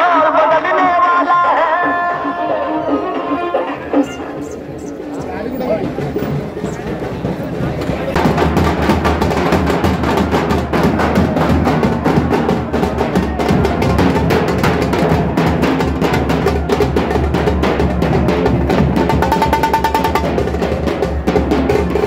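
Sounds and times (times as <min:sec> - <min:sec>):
drums beating fast rhythm: 0:00.0 - 0:22.0.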